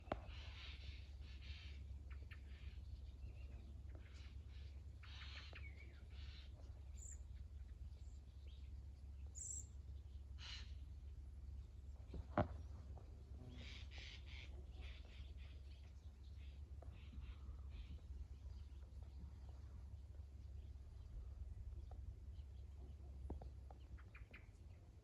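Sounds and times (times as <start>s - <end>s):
birds calling faintly: 0.0s - 25.0s
steady low hum: 0.0s - 25.0s.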